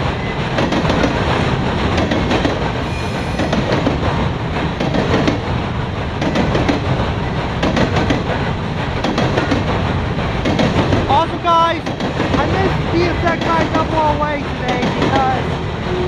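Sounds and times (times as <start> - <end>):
freight train rumbling past: 0.0 - 16.0
steel wheels clicking on rail joints: 0.0 - 16.0.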